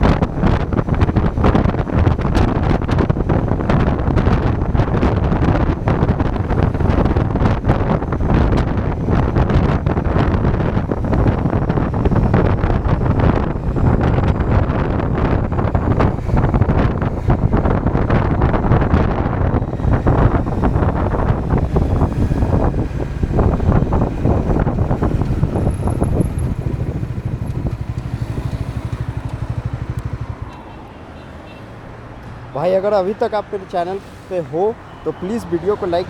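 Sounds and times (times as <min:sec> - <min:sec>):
motorcycle engine running: 0:00.0 - 0:31.3
wind buffeting microphone: 0:00.0 - 0:36.0.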